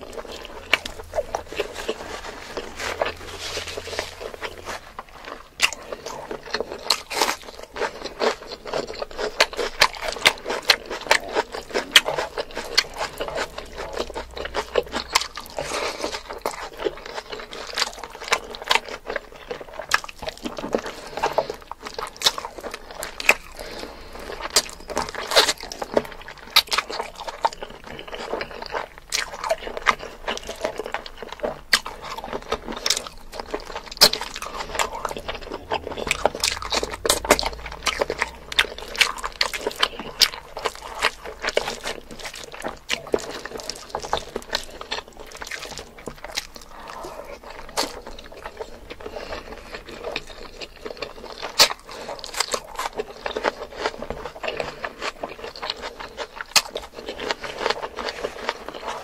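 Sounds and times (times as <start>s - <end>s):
chewing and lip smacking: 0.0s - 59.0s.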